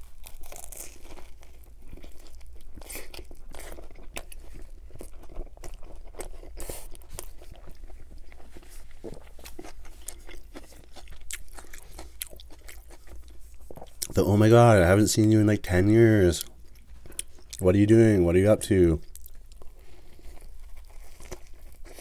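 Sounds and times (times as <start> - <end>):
chewing crunches: 0.0 - 14.3, 16.0 - 17.7, 19.0 - 22.0.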